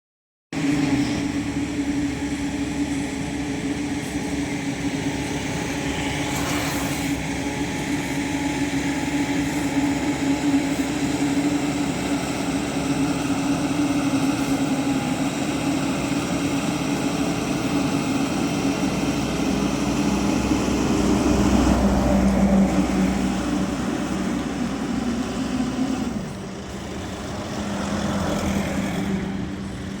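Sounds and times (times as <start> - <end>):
construction machinery engine droning: 0.6 - 30.0.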